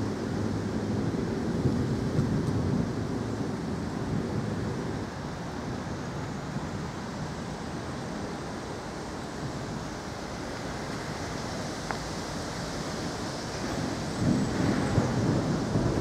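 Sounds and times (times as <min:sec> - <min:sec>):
rain: 0:00.0 - 0:16.0
wind: 0:00.0 - 0:16.0.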